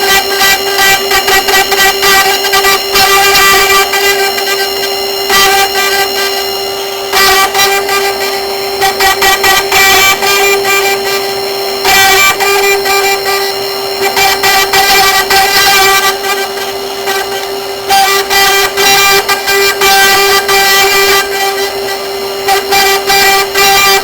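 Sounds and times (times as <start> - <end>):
bit cutting noise: 0.0 - 24.0
router spindle whining: 0.0 - 24.0.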